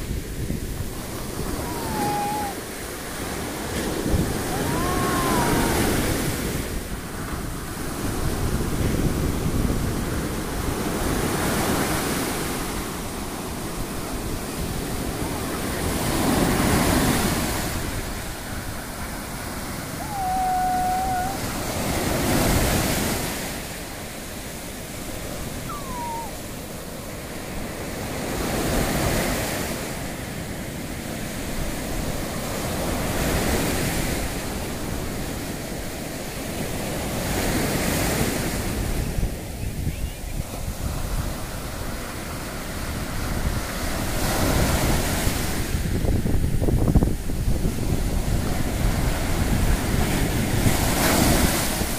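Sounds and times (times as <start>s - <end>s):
waves breaking on sand: 0.0s - 51.9s
wind buffeting microphone: 0.0s - 51.9s.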